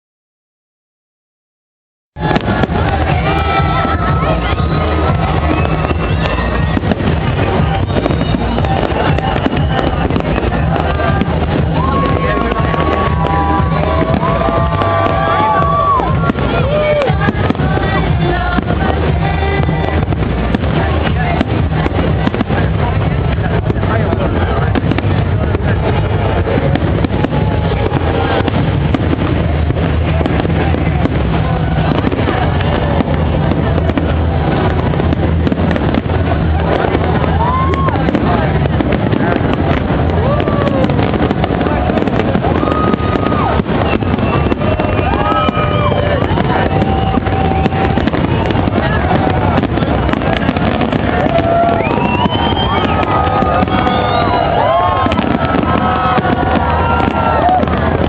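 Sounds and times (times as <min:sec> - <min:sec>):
fireworks booming and crackling: 0:02.2 - 0:58.0.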